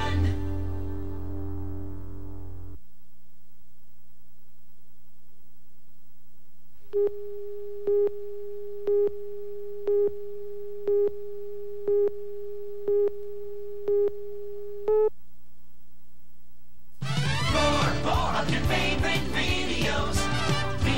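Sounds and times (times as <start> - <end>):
faint steady tone: 0.0 - 17.0
low tape hum: 0.0 - 20.9.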